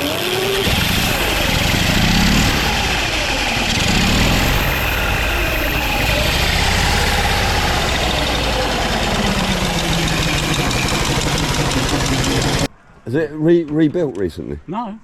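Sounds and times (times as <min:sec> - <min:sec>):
car engine idling: 0:00.3 - 0:12.7.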